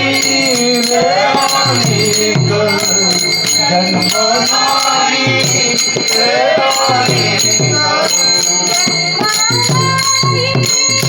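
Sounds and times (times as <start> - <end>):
drum strokes: 0.0 - 11.0
hand cymbals ringing: 0.0 - 11.0.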